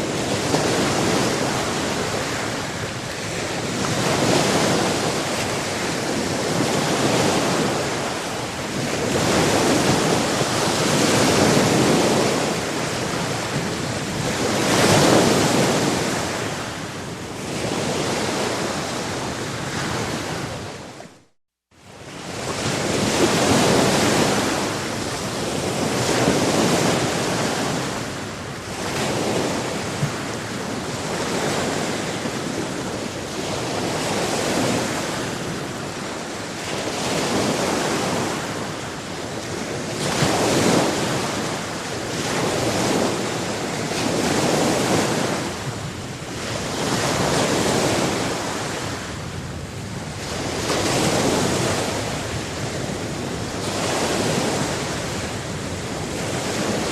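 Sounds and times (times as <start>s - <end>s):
waves breaking on shore: 0.0s - 56.9s
wind on microphone: 0.0s - 56.9s.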